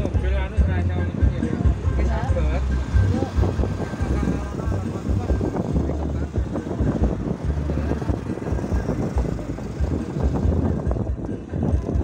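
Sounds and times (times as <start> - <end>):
deep uneven rumble: 0.0 - 12.0
motorcycle engines: 0.0 - 12.0
road noise: 0.0 - 12.0.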